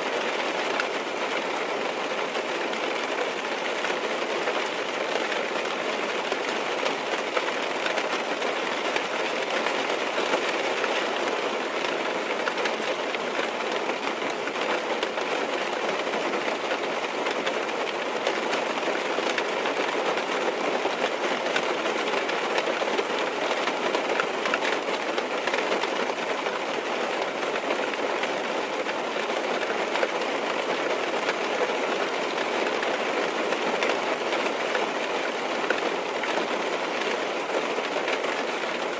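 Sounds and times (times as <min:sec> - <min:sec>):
rain on car roof: 0:00.0 - 0:38.9.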